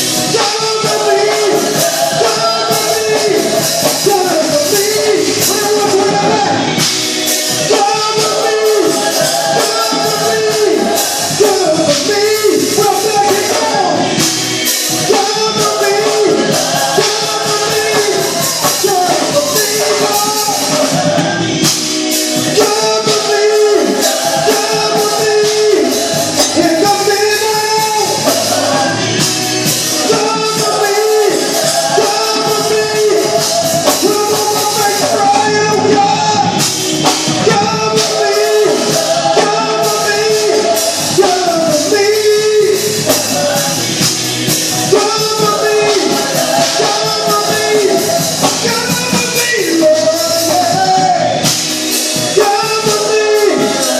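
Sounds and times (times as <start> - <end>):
steady drum beat: 0.0 - 53.9
voices singing in unison: 0.0 - 53.9.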